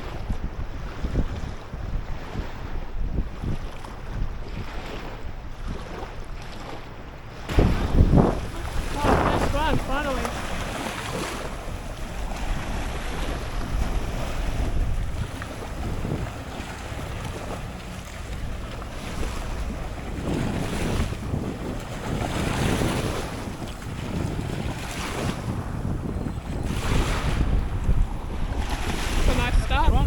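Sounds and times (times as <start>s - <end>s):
water sounds from boat: 0.0s - 30.0s
wind buffeting microphone: 0.0s - 30.0s.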